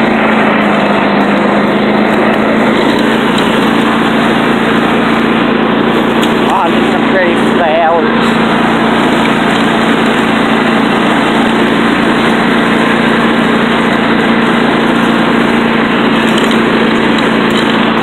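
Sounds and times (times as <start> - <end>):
riding lawn mower engine: 0.0 - 18.0.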